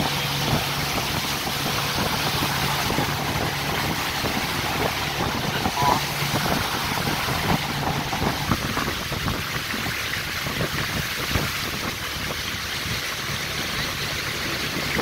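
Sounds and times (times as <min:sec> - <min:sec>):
boat engine hum: 0:00.0 - 0:15.0
water rushing along hull: 0:00.0 - 0:15.0
wind on microphone: 0:00.0 - 0:15.0.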